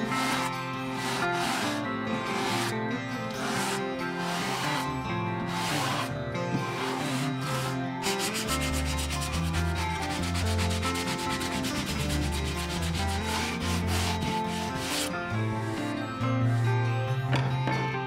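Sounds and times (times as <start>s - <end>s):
sandpaper rasping on wood: 0.0s - 15.9s.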